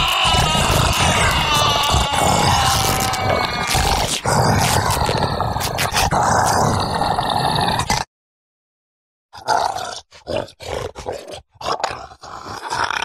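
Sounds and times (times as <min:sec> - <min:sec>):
zombie growling and groaning: 0:00.0 - 0:08.1, 0:09.4 - 0:13.0.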